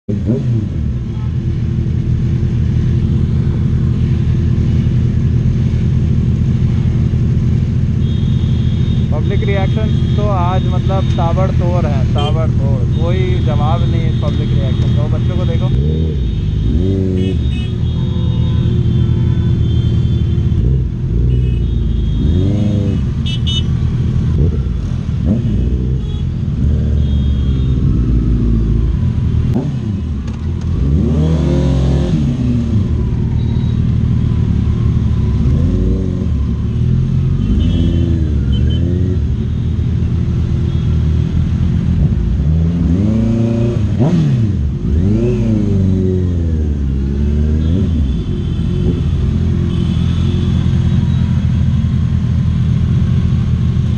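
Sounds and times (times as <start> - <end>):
motorcycle engines idling and revving: 0.0 - 53.9.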